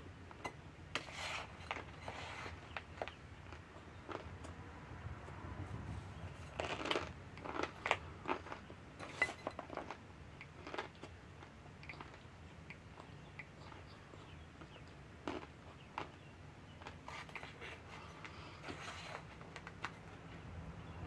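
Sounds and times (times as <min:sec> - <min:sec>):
crisp chewing crunches: 0:01.0 - 0:04.6, 0:06.3 - 0:20.2.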